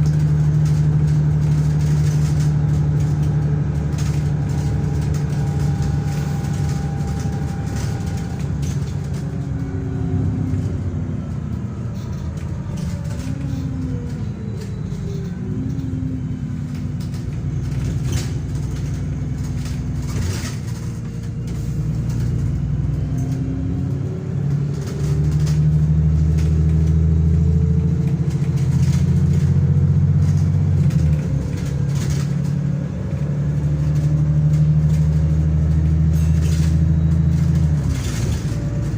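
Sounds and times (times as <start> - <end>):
bus diesel engine: 0.0 - 38.9.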